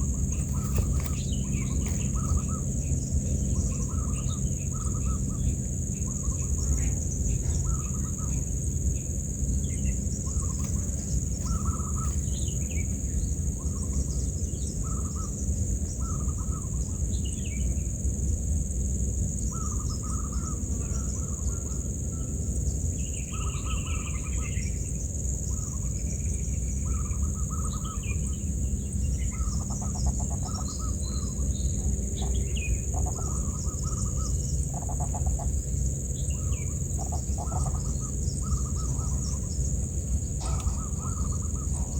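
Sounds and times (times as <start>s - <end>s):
bird calls: 0.0s - 17.8s, 25.5s - 41.9s.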